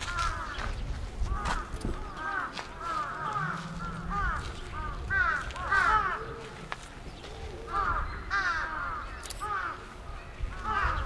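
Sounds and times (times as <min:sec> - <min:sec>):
birds cawing: 0:00.0 - 0:11.0.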